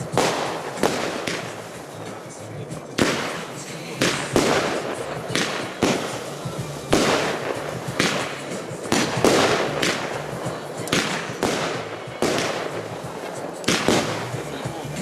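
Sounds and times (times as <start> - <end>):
fireworks shots with hiss: 0.0 - 15.0.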